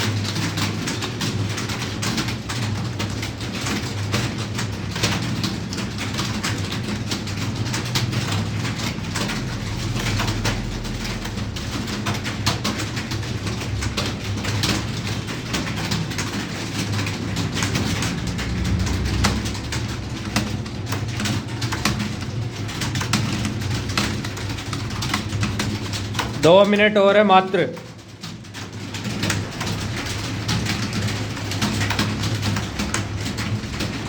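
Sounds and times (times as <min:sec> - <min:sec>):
fast keyboard typing: 0:00.0 - 0:34.0.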